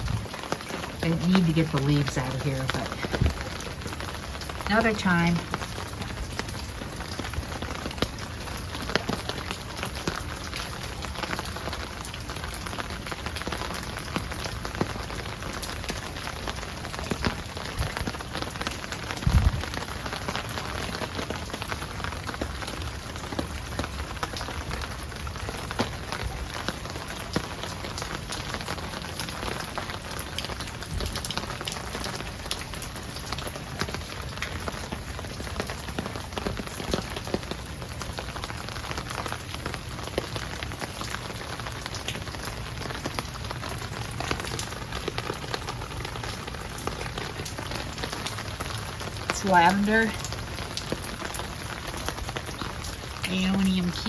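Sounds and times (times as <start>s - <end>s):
rain falling: 0.0s - 54.0s
raindrops ticking on an umbrella: 0.0s - 54.0s.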